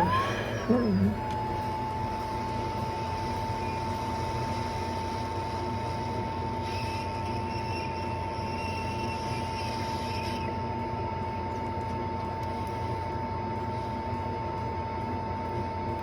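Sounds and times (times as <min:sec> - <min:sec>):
electric fan motor whine: 0:00.0 - 0:16.0.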